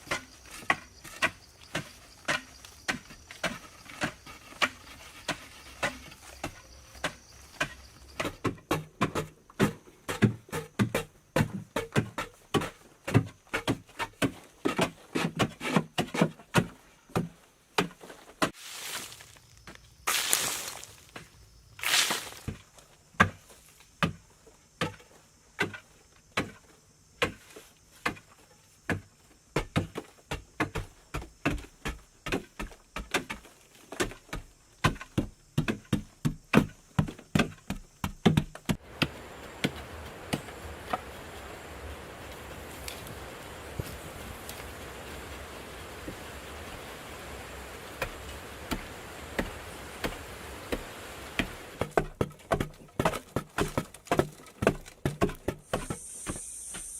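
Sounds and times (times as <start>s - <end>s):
hand tool striking wood or earth: 0.0s - 22.6s, 28.9s - 45.2s, 47.1s - 56.9s.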